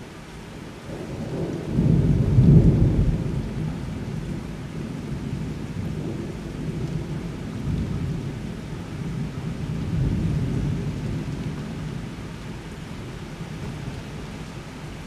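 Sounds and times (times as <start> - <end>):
steady rain: 0.0 - 15.0
thunder rumbling: 0.9 - 15.0.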